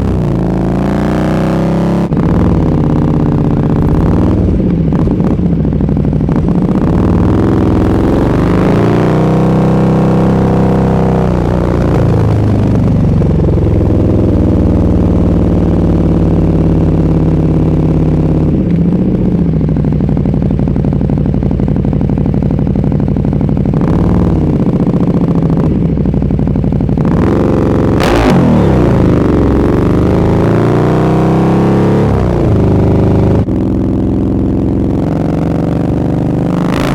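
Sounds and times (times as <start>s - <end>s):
motorcycle engine at low revs: 0.0s - 36.9s.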